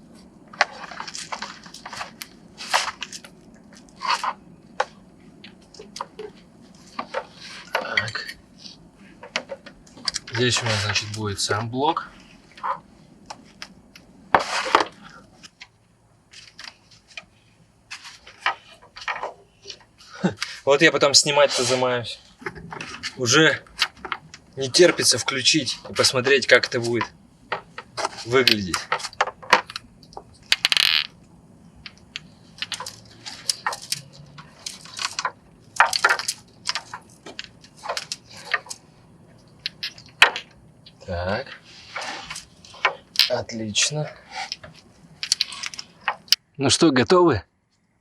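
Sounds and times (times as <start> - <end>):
rustle: 0.0 - 31.2, 31.8 - 46.4
handling string lights: 0.1 - 46.4.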